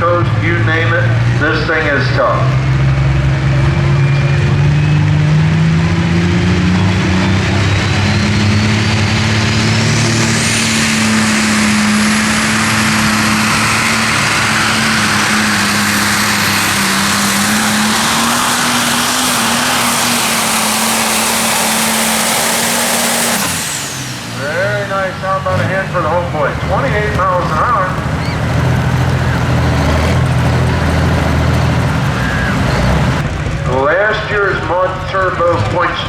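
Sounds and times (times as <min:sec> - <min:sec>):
high engine whine: 0:00.0 - 0:36.0
tractor engine at full throttle: 0:00.0 - 0:36.0.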